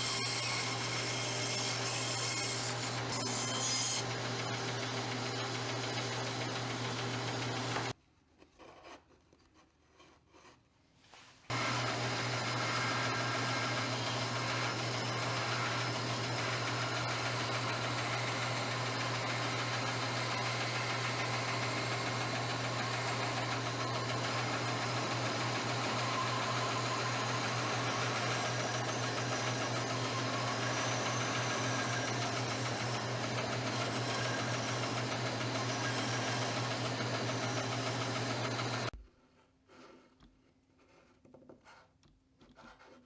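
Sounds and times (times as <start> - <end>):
woodworking power tool running: 0.0 - 8.0, 11.5 - 39.0.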